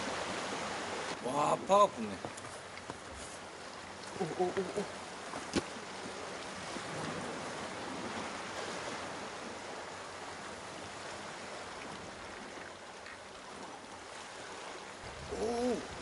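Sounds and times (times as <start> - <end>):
sea water washing on rocks: 0.0 - 16.0.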